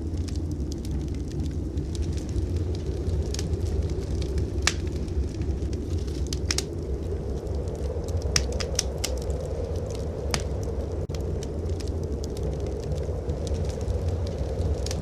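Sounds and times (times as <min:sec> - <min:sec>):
blizzard wind rumble: 0:00.0 - 0:15.0
wood fire crackling: 0:00.0 - 0:15.0.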